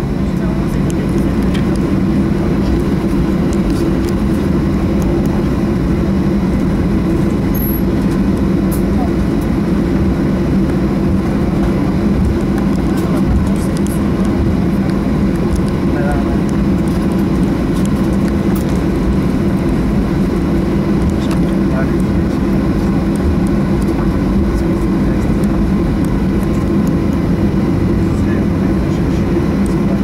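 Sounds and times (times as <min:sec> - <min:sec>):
jet engines droning: 0:00.0 - 0:30.0.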